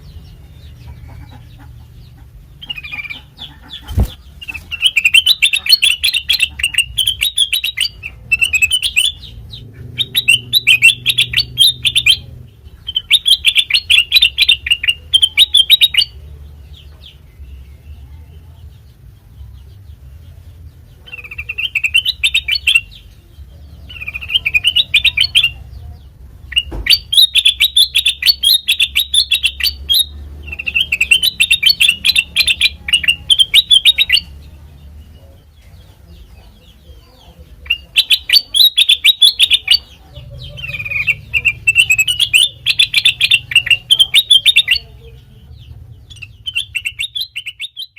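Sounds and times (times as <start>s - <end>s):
bulbul singing: 0.0s - 47.9s.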